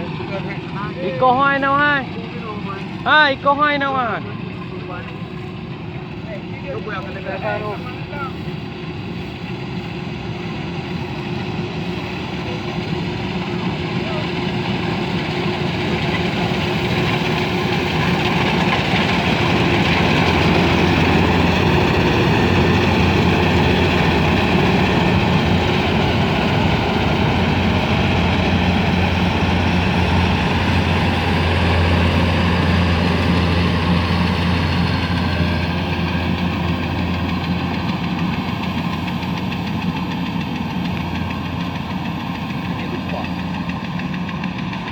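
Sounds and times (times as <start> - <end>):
harvester engine running: 0.0 - 44.9.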